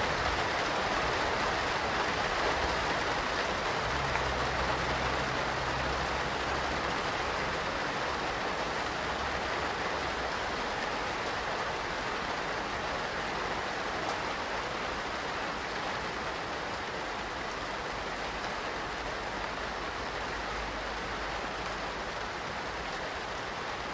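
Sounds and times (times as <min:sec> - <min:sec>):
rain falling: 0:00.0 - 0:23.9.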